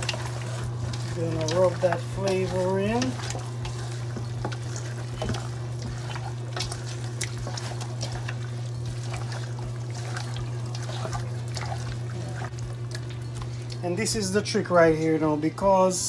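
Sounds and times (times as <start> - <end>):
wet squelching of raw chicken: 0.0 - 13.8
steady low hum: 0.0 - 16.0.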